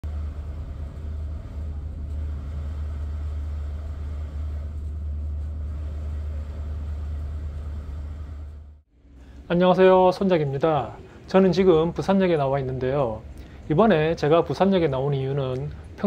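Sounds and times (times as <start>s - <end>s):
ferry engine drone: 0.0s - 16.0s.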